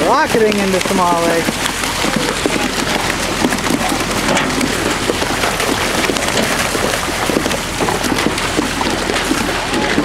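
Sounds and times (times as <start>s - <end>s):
water rushing and splashing: 0.0s - 10.0s.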